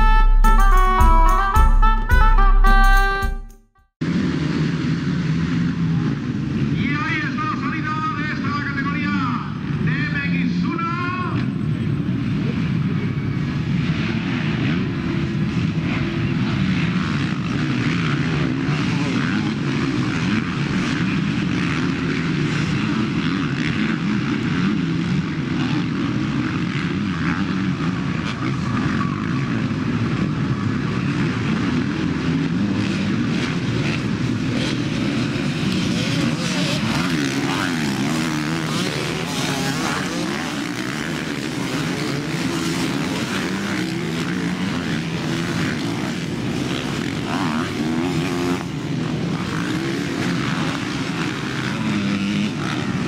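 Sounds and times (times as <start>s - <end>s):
motocross bikes revving: 4.0s - 53.0s.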